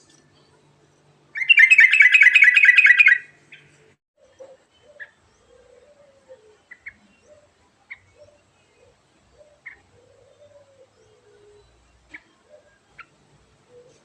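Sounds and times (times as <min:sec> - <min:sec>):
bird singing rolling song: 0:00.0 - 0:14.0.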